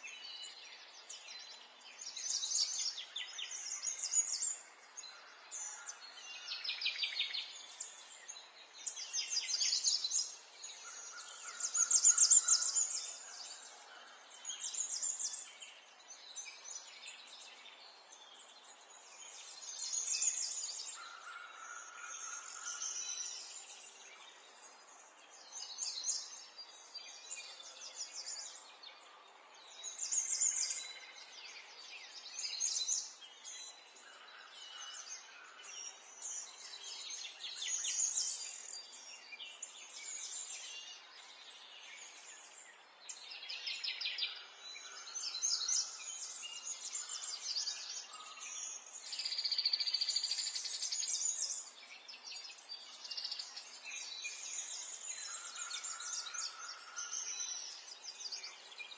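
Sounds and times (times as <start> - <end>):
birds singing and chirping: 0.0 - 58.9.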